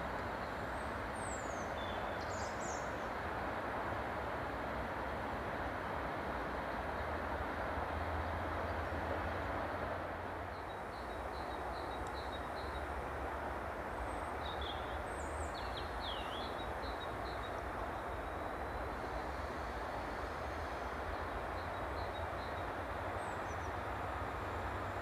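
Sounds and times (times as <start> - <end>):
distant train rumble: 0.0 - 25.0.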